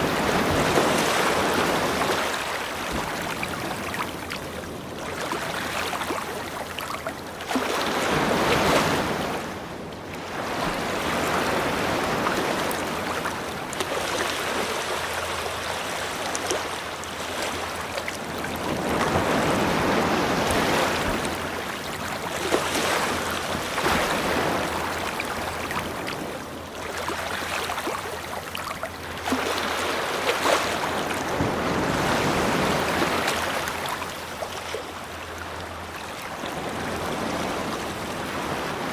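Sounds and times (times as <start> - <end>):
ocean waves washing on beach: 0.0 - 38.9.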